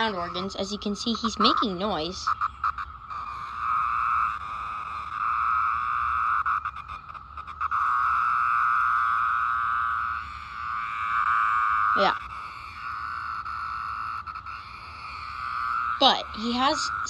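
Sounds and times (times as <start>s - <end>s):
cicada buzzing: 0.0s - 17.0s.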